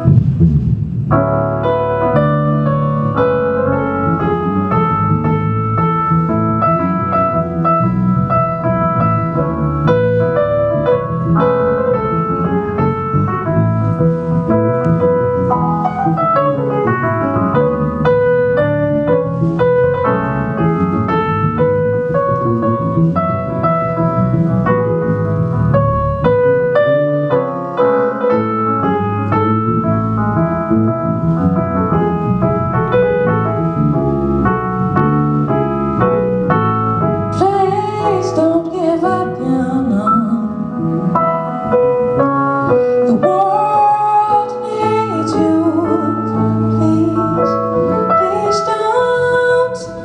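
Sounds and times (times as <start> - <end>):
keyboard playing piano notes: 0.0 - 50.0
low accompaniment: 0.0 - 50.0.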